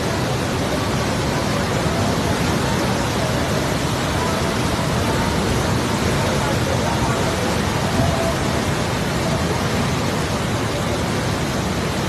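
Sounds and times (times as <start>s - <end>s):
loud rushing floodwater: 0.0s - 12.0s.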